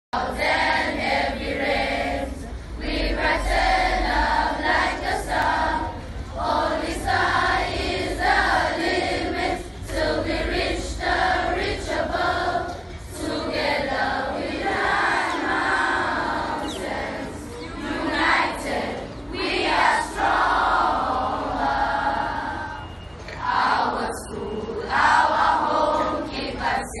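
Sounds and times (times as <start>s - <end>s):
girls choir singing: 0.2s - 27.0s.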